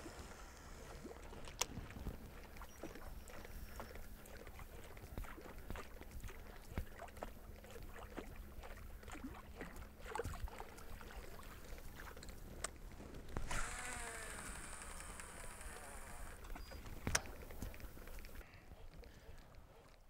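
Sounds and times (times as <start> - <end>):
lure splashing across water: 0.0 - 18.4.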